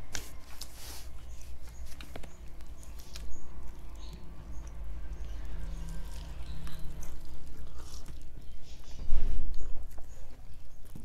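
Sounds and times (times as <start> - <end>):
chewing and lip smacks: 0.6 - 11.0.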